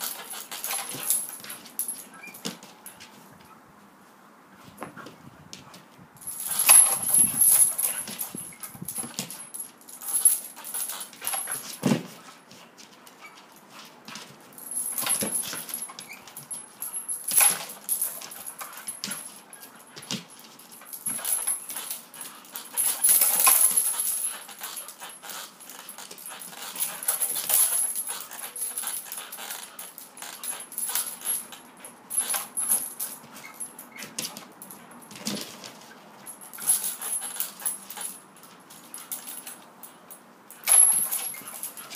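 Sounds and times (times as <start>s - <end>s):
paws scuffing and clicking: 0.0s - 3.6s, 4.6s - 39.8s, 40.6s - 41.9s
dog noises: 4.6s - 39.7s.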